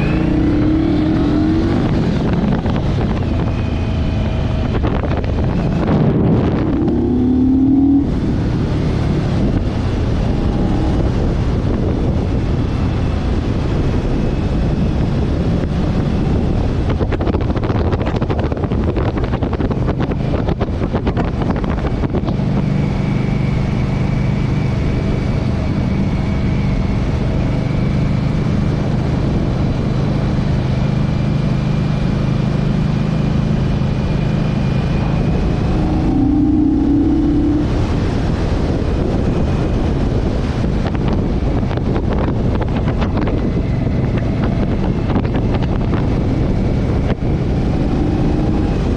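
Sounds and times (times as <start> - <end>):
motorcycle engine: 0.0 - 48.9
wind rushing on microphone: 0.0 - 48.9.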